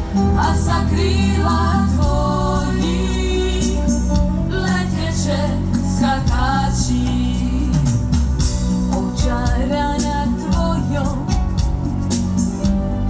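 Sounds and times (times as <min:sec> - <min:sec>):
women's vocal group singing: 0:00.0 - 0:11.4
instrumental accompaniment: 0:00.0 - 0:13.0.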